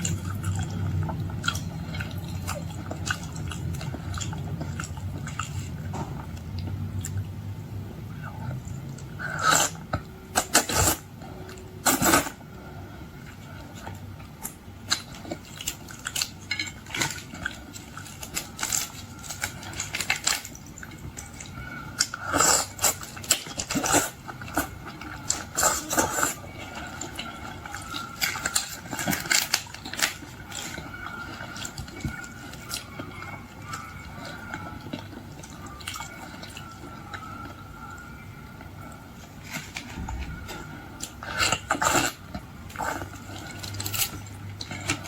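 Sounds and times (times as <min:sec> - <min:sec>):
eating shrimp close up: 0:00.0 - 0:45.0.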